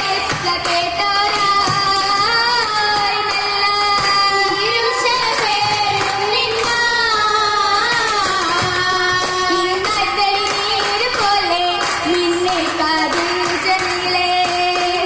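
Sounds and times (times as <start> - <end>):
girls singing together: 0.0 - 15.0
handclaps: 0.0 - 15.0.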